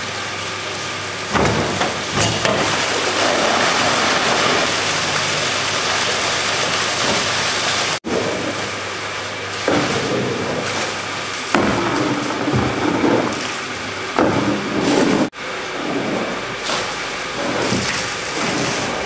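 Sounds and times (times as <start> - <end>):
machinery running: 1.0 - 19.0.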